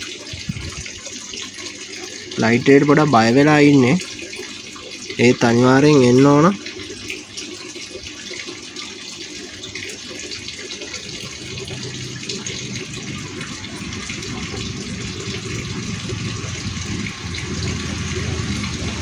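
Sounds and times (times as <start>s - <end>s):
aquarium water running: 0.0s - 19.0s.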